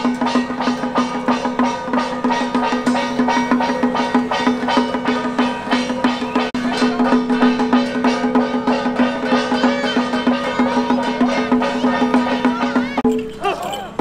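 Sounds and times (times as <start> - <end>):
drums and gongs beating: 0.0 - 14.0.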